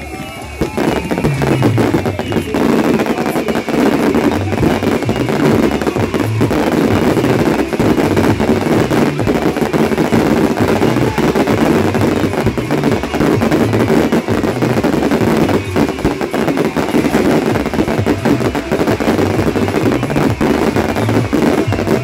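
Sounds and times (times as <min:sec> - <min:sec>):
fireworks bangs and crackle: 0:00.0 - 0:22.0.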